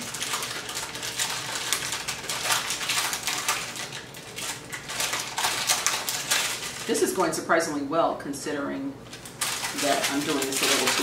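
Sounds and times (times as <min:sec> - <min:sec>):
paper rustling: 0:00.0 - 0:07.0, 0:09.1 - 0:11.0.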